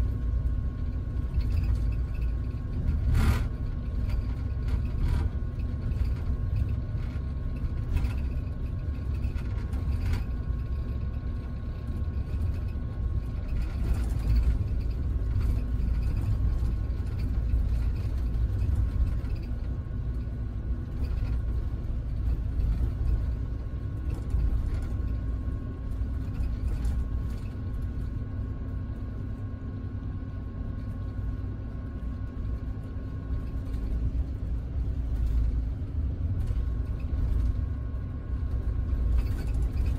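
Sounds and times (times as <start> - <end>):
engine and road rumble: 0.0 - 39.9
faint steady whine: 0.0 - 39.9
light clicks and rattles: 0.0 - 39.9.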